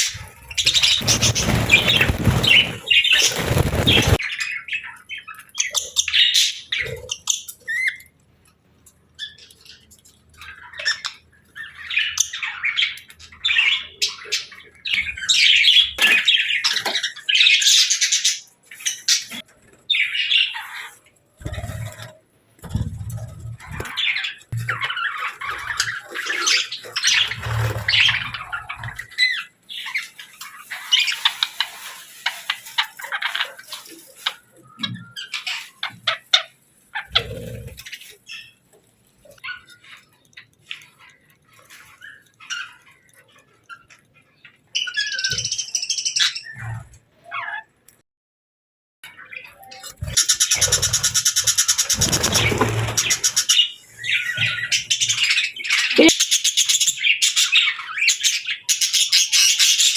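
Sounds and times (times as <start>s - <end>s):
small birds chirping: 0.0s - 47.8s, 49.0s - 59.9s.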